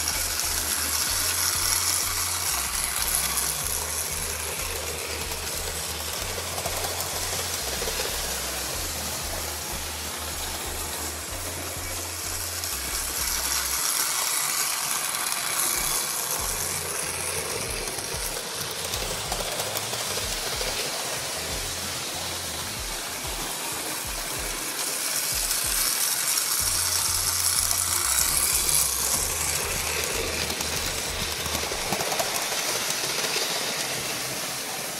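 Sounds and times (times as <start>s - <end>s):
toy train whirring rattle: 0.0s - 34.9s.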